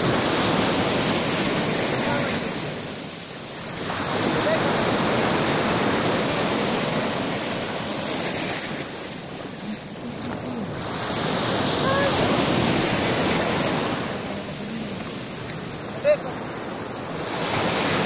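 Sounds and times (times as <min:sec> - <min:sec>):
surf washing up beach: 0:00.0 - 0:18.0.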